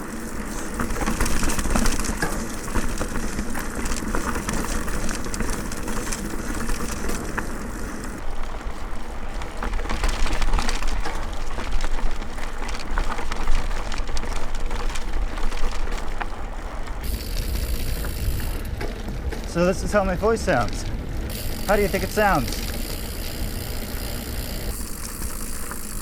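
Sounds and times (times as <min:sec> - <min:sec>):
bike clicks and rattles: 0:00.0 - 0:26.0
tyre noise on dirt trail: 0:00.0 - 0:26.0.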